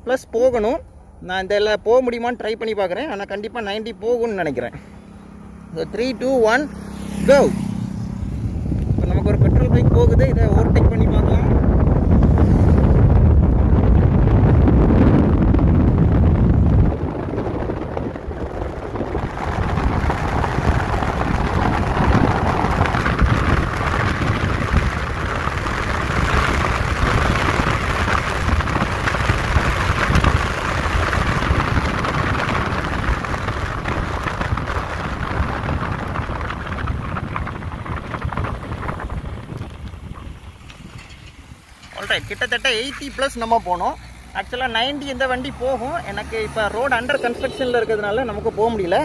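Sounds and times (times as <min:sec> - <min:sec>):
road noise: 0:00.0 - 0:49.0
wind rushing over microphone: 0:00.0 - 0:49.0.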